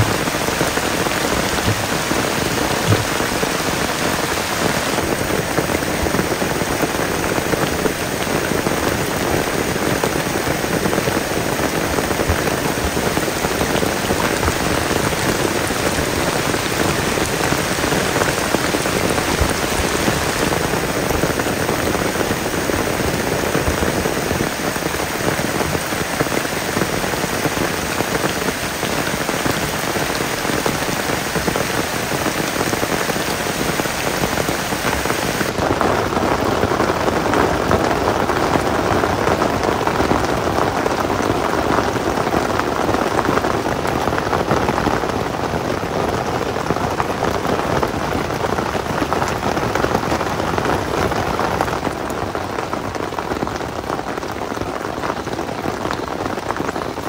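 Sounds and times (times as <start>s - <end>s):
heavy rain on leaves: 0.0s - 57.0s
rain on tent fabric: 0.0s - 57.0s.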